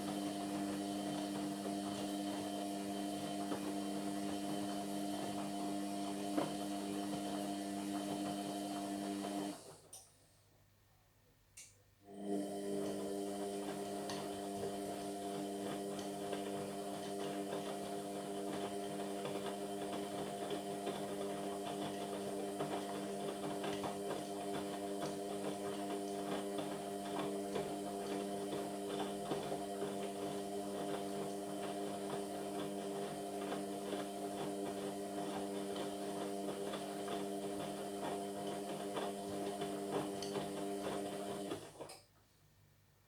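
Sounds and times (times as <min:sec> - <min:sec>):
washing machine motor hum: 0:00.0 - 0:09.9, 0:12.1 - 0:41.9.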